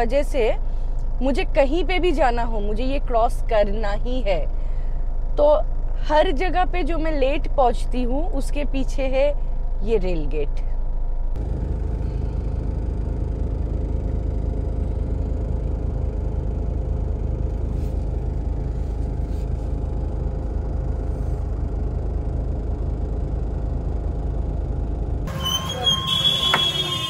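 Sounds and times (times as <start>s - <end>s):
car engine idling: 0.0s - 10.1s, 10.7s - 27.0s.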